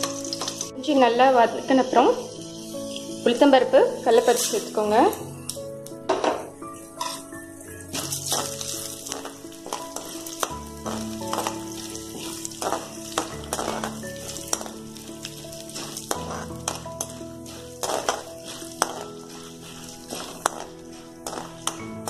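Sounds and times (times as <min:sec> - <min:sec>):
metal spoon scraping a pan: 0:00.0 - 0:00.7, 0:01.7 - 0:05.2, 0:06.7 - 0:22.0
lentils sizzling in oil: 0:00.0 - 0:22.0.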